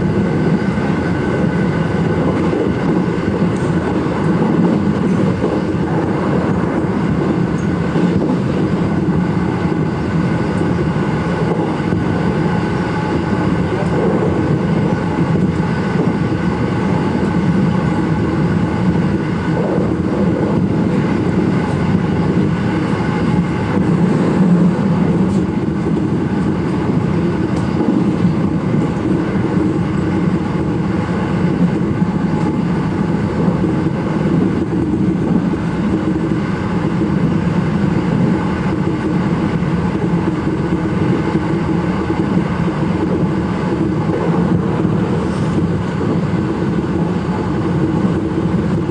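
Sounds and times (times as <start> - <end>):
wheels rumbling on track: 0.0 - 48.9.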